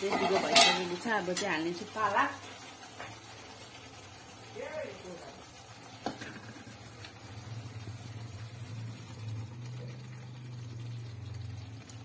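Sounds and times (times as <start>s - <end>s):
gravy simmering in a wok: 0.0s - 12.0s.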